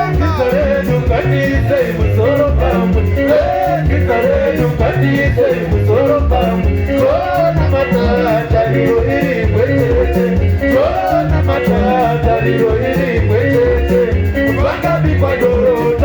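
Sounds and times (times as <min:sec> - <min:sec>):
band music with bass and melody: 0:00.0 - 0:16.0.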